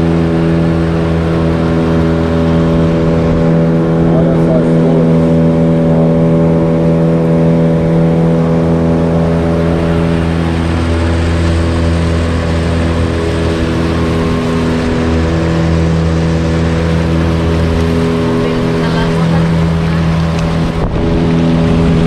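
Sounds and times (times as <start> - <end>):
boat motor running: 0.0 - 22.0
water and wind noise: 0.0 - 22.0.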